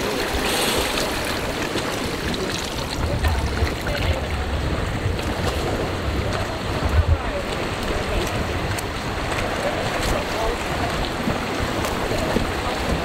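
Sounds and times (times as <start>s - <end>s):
muffled rushing water underwater: 0.0s - 13.0s
steady low rumble: 0.2s - 13.0s.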